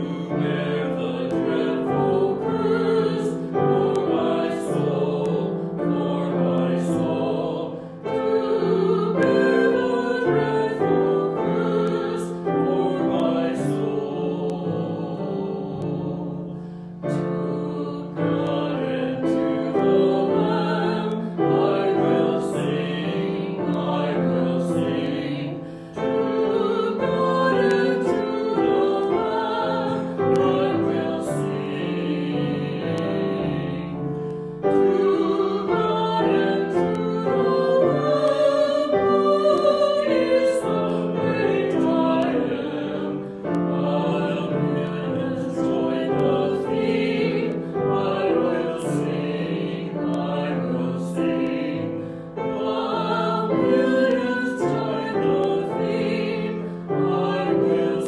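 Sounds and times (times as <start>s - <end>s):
hymn singing: 0.0s - 58.0s
piano accompaniment: 0.0s - 58.0s.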